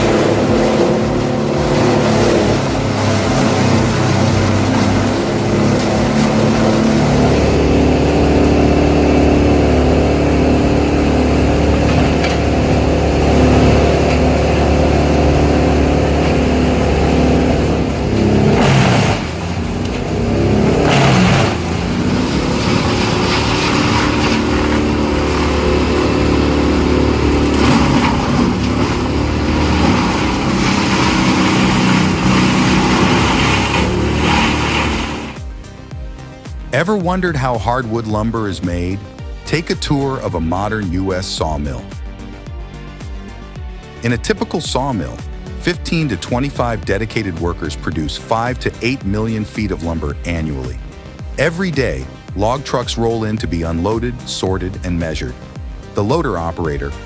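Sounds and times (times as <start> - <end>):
tree chipper engine running: 0.0 - 57.0.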